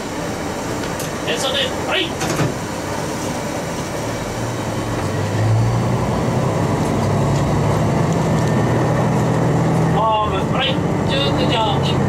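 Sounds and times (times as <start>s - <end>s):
diesel railcar engine throttling up: 0.0s - 12.0s.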